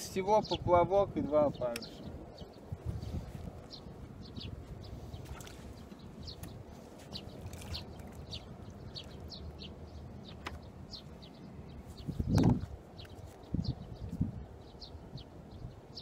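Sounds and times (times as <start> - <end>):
small bird chirping: 1.5 - 16.0.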